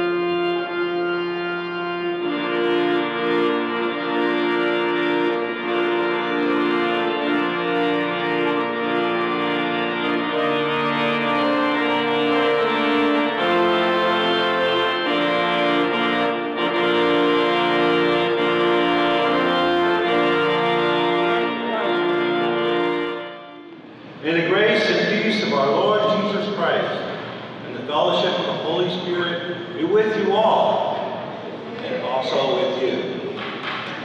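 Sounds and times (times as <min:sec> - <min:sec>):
organ playing sustained chords: 0:00.0 - 0:33.4.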